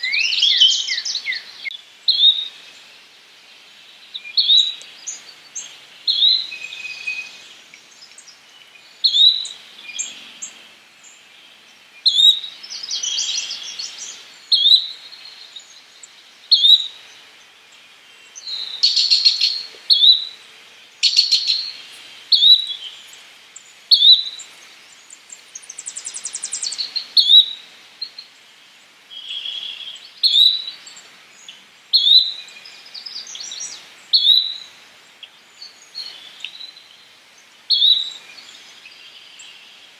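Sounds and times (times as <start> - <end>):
birds trilling and chattering: 0.0 - 39.8.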